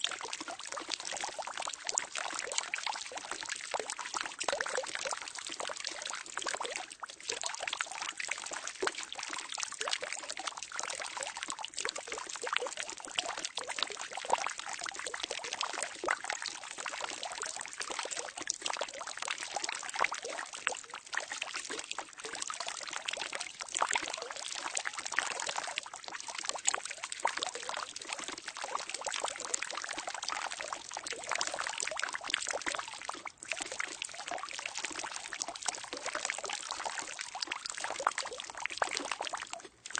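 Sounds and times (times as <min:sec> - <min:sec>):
water pouring into a barrel: 0:00.0 - 0:39.9.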